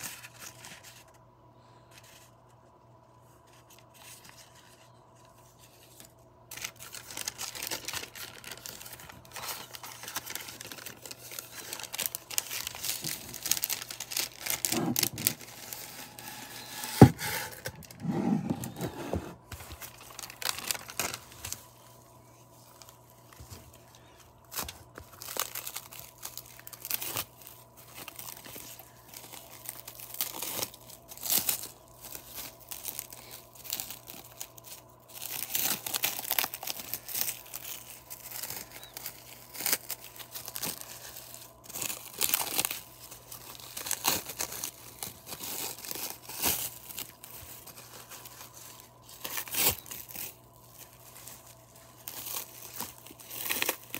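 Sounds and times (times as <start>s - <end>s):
plastic wrap crinkling: 0.0s - 1.2s, 1.8s - 53.9s.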